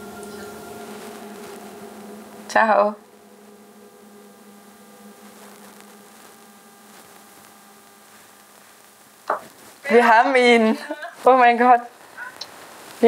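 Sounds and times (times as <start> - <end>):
faint hiss: 0.0 - 13.0
low electrical hum: 0.0 - 13.0.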